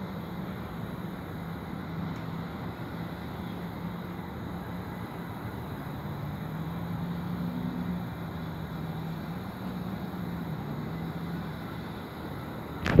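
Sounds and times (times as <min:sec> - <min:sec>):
distant engine hum: 0:00.0 - 0:13.0
outdoor background noise: 0:00.0 - 0:13.0.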